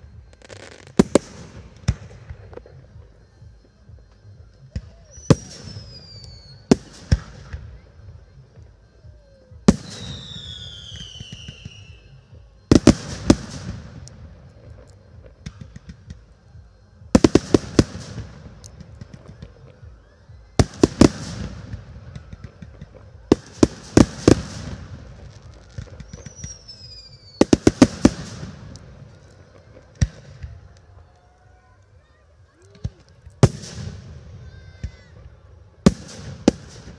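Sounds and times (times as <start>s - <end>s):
fireworks bangs: 0.0s - 3.8s, 4.6s - 31.2s, 32.6s - 36.9s
falling firework whistle: 0.0s - 36.9s.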